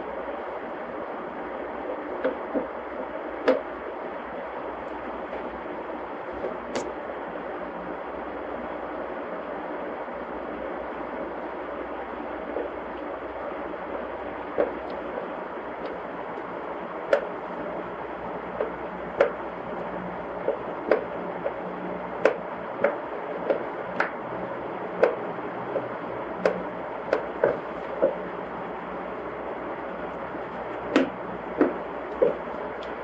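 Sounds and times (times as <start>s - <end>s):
whooshing background noise: 0.0s - 33.0s.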